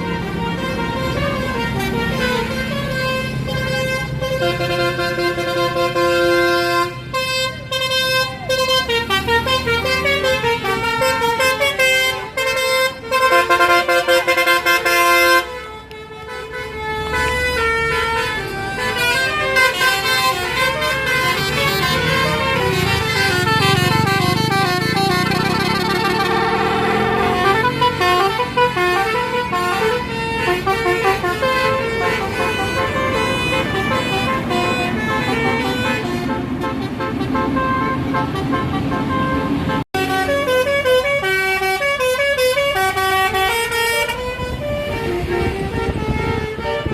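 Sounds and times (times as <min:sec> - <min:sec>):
bus musical air horn tune: 0:00.0 - 0:46.9
low engine rumble: 0:00.0 - 0:46.9.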